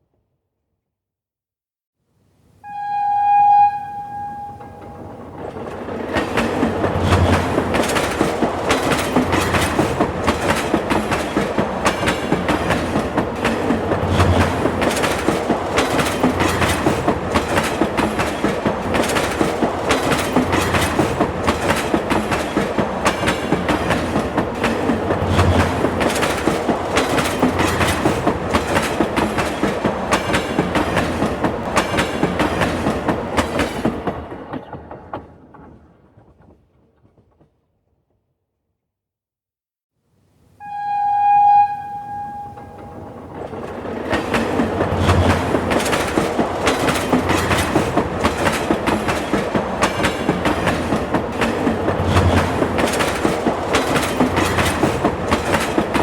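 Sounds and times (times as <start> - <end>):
train wheels clattering over rail joints: 5.2 - 37.7, 43.2 - 56.0.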